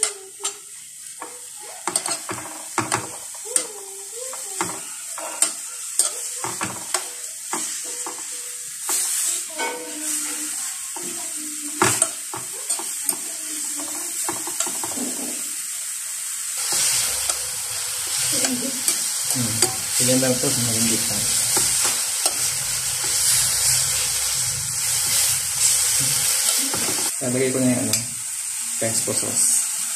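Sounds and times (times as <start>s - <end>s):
metal tongs scraping a pan: 0.0s - 10.6s, 11.9s - 15.3s, 16.6s - 27.1s
noodles sizzling in a pan: 0.0s - 29.9s.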